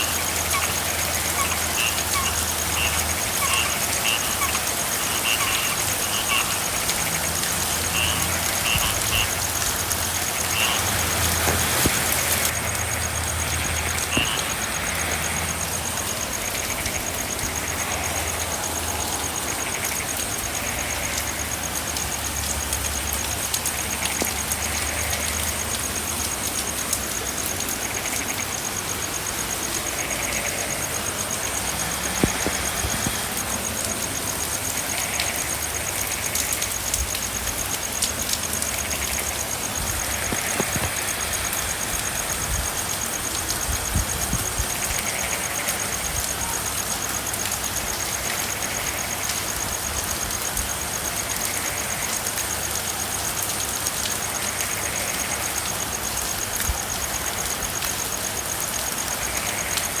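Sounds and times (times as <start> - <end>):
frogs chirping: 0.0 - 60.0
frogs croaking: 0.0 - 60.0
steady rain: 0.0 - 60.0.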